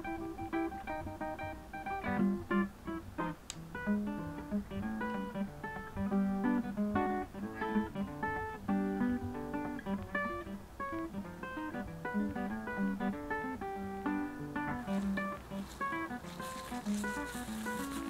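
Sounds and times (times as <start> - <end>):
acoustic guitar picking melody: 0.0 - 18.0.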